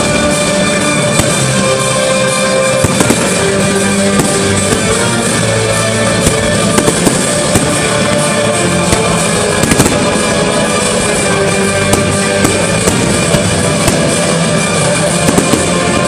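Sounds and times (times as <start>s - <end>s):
music playing: 0.0s - 16.0s
firework shells bursting: 0.9s - 16.0s.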